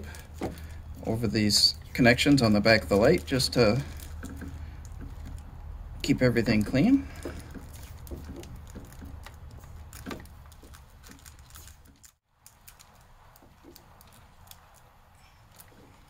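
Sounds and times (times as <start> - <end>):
electrical tape clicks and rustles: 0.0 - 16.0.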